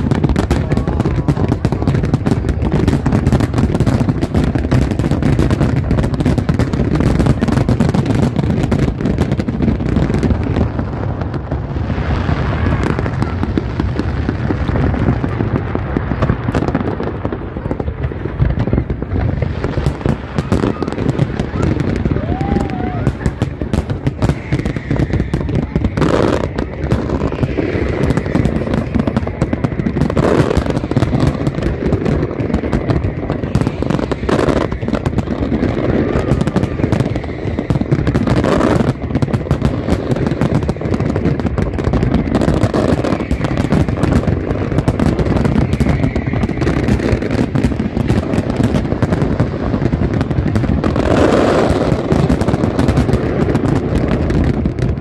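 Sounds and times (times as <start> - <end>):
firework crackle: 0.0 - 55.0.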